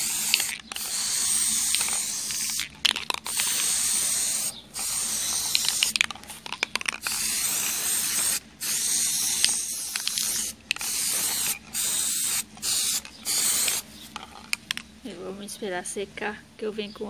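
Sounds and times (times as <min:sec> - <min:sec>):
spray paint can hissing: 0:00.0 - 0:14.8.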